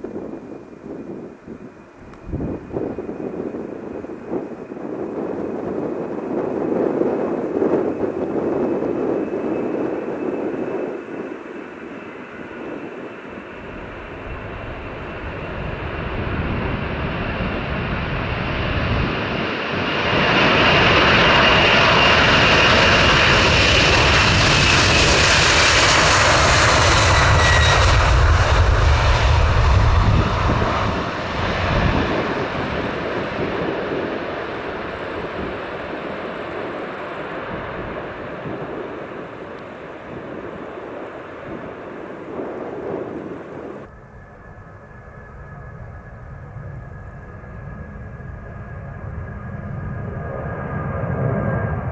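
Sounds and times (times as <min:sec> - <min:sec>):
airliner flying past: 0:00.0 - 0:51.9.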